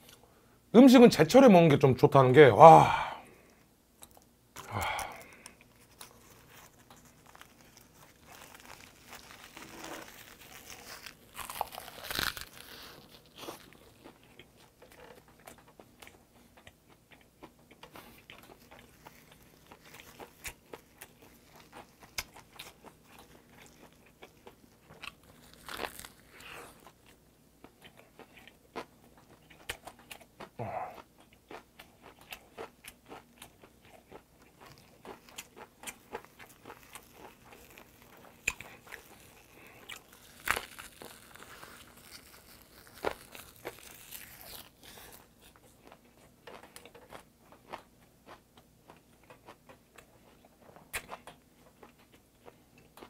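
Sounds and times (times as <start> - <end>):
person chewing crunchy food: 4.0 - 53.0.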